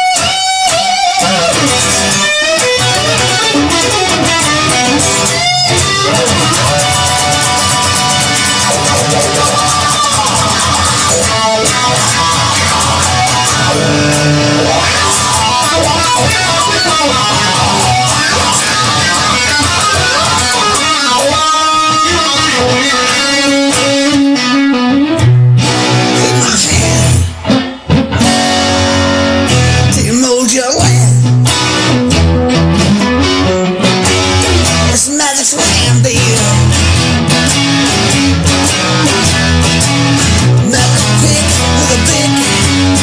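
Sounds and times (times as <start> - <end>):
electric guitar song: 0.0 - 43.0.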